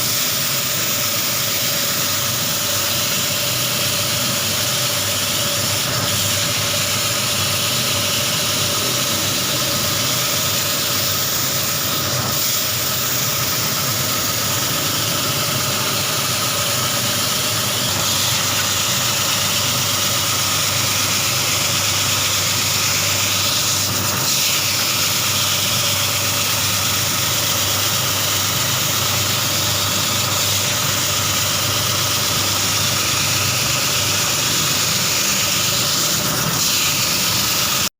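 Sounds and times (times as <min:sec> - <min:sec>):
carpet washing machine running: 0:00.0 - 0:37.9.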